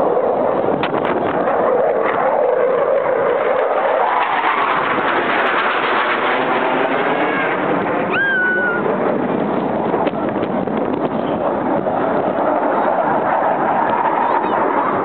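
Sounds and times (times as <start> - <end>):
jet flying overhead: 0.0 - 15.0.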